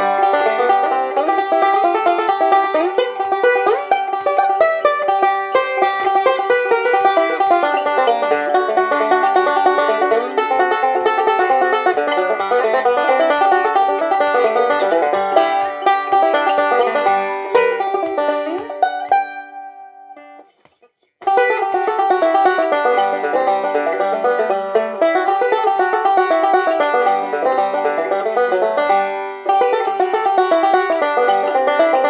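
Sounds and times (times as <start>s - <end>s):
banjo picking rapid runs: 0.0s - 20.3s, 21.2s - 32.0s.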